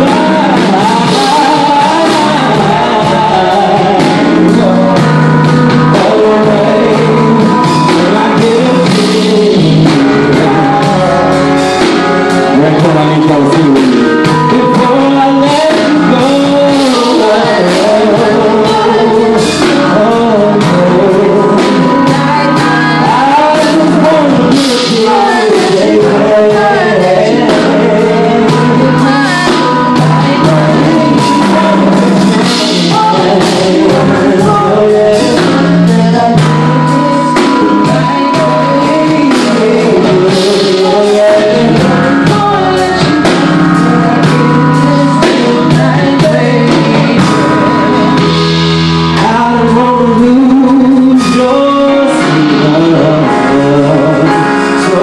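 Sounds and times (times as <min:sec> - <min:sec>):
bass guitar: 0:00.0 - 0:55.0
drums with cymbal strikes: 0:00.0 - 0:55.0
electric guitar: 0:00.0 - 0:55.0
keyboard: 0:00.0 - 0:55.0
man singing: 0:00.0 - 0:55.0.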